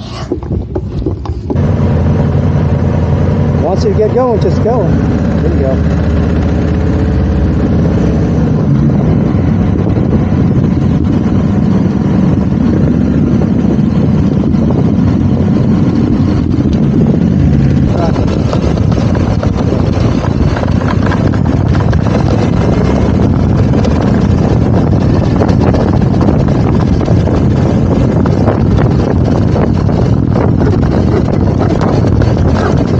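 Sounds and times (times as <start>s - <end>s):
motorcycle engine running: 0.0s - 32.9s
wind noise on microphone: 0.0s - 32.9s.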